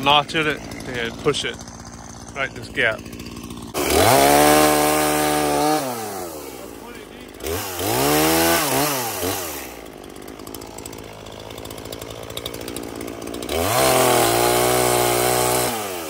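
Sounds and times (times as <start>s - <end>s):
chainsaw cutting into wood: 0.0s - 16.0s
chainsaw idling and revving: 0.0s - 16.0s.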